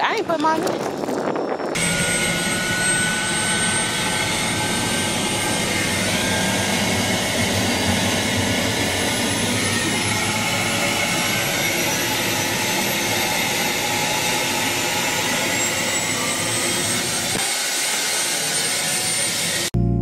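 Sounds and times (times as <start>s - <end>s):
helicopter engine and rotor noise: 0.0s - 19.7s.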